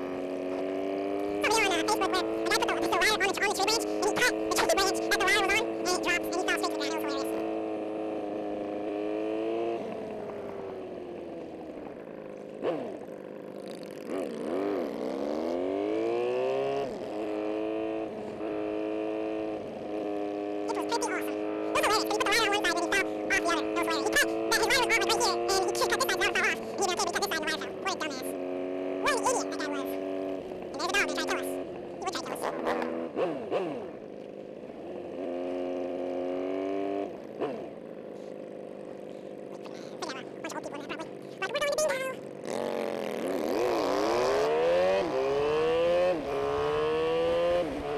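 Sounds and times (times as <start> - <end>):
motorcycle engine: 0.0 - 47.9.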